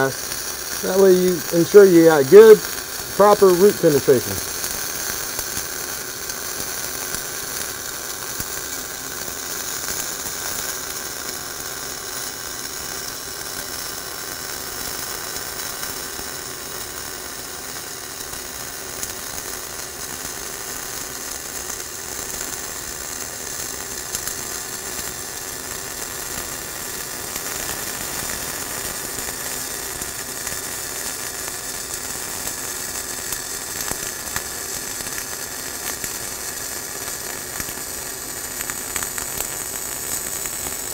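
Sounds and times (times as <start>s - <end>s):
arc welding: 0.0s - 40.9s.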